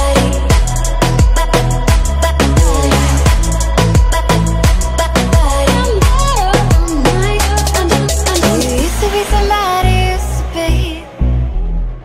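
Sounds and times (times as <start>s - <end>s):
electronic music with drum beat: 0.0s - 11.8s.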